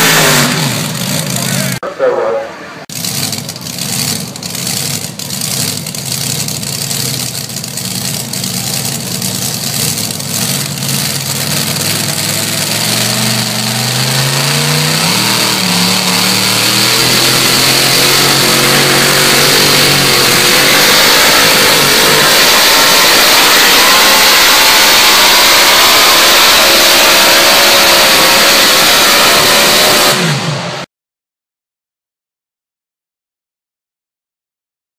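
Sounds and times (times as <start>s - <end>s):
truck engine revving: 0.0s - 30.9s.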